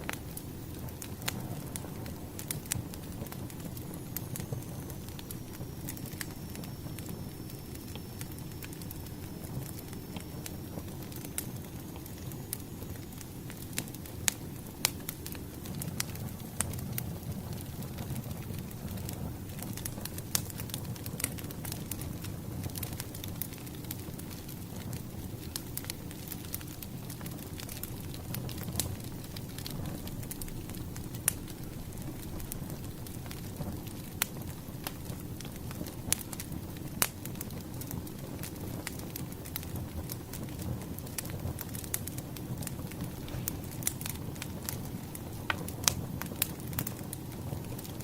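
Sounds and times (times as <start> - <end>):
burning logs rumbling: 0.0 - 48.0
fire pops and snaps: 0.0 - 48.0.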